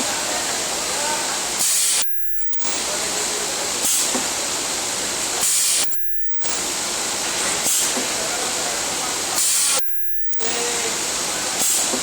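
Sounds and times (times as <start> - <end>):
welding machine steady hiss: 0.0 - 12.0.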